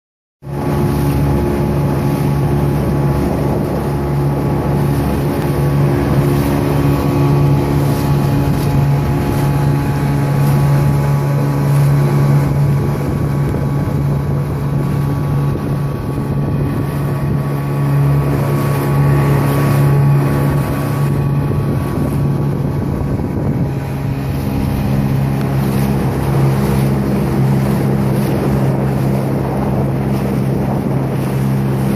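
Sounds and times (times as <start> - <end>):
boat motor droning: 0.4 - 31.9
water rushing along hull: 0.4 - 31.9
wind noise on microphone: 0.5 - 31.9.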